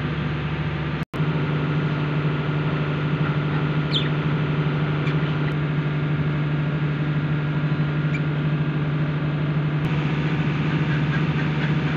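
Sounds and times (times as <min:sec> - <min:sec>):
machine humming: 0:00.0 - 0:11.9.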